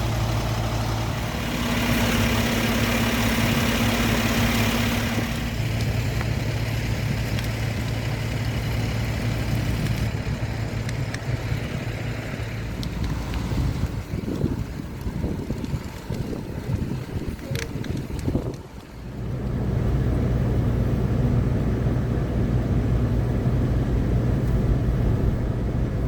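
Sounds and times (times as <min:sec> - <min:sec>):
large vehicle engine idling: 0:00.0 - 0:26.0.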